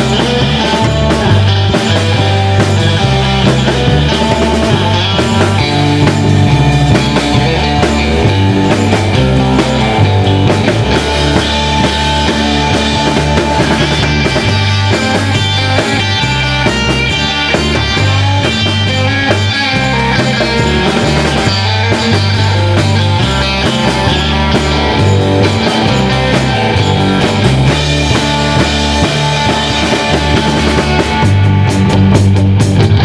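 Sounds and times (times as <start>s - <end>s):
driving bass line: 0.0s - 33.0s
drum kit: 0.0s - 33.0s
electric guitar: 0.0s - 33.0s.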